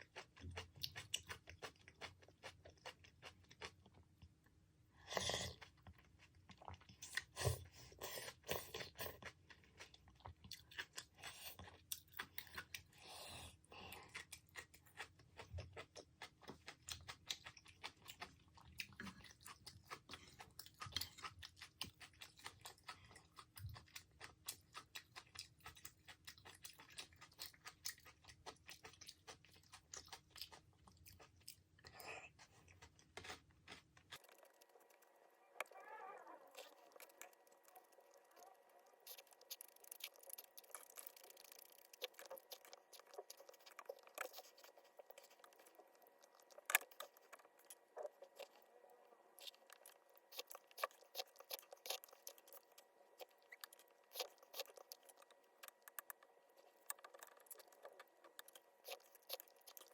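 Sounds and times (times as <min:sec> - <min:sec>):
person chewing and crunching: 0:00.0 - 0:04.4, 0:05.0 - 0:59.9.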